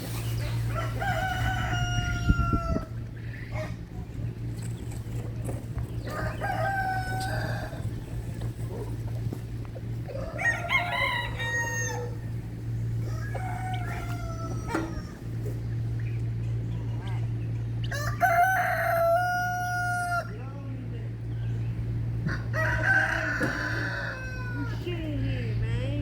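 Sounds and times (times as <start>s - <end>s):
roosters crowing: 0.0s - 25.2s
steady low hum: 0.0s - 26.0s.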